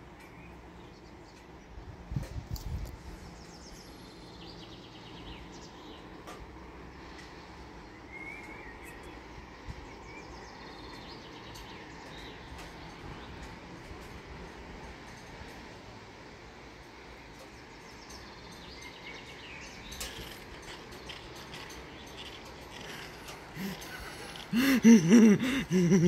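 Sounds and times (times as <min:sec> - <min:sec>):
small birds chirping: 0:00.0 - 0:14.2, 0:16.8 - 0:26.0
outdoor background hiss: 0:00.0 - 0:26.0.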